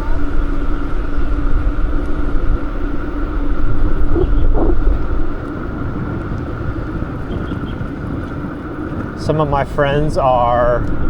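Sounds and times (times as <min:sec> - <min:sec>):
steady hum: 0:00.0 - 0:11.0
street traffic passing: 0:00.0 - 0:11.0
wind rumbling on microphone: 0:00.0 - 0:11.0.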